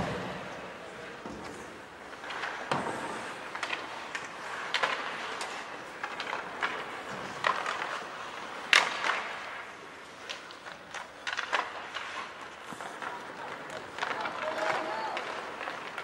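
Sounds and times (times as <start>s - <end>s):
hockey sticks and puck clacking: 0.0s - 16.0s.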